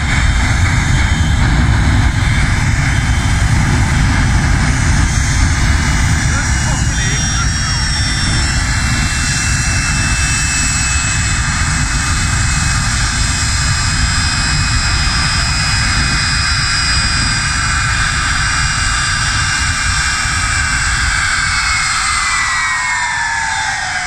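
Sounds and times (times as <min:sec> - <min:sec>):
jet engine running: 0:00.0 - 0:24.0.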